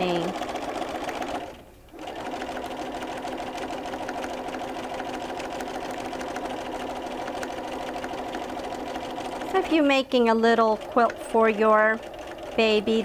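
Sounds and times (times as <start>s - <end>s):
sewing machine running: 0.0s - 13.0s.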